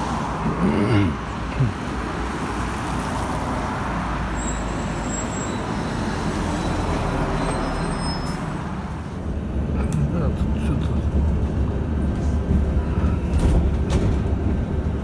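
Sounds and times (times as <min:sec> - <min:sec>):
bus engine and road rumble: 0:00.0 - 0:15.0
street traffic: 0:00.0 - 0:15.0.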